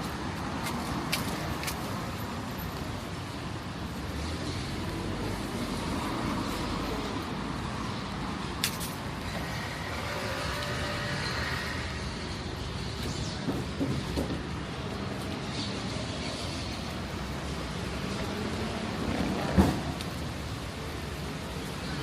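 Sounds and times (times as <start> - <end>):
cars and buses passing: 0.0 - 22.0.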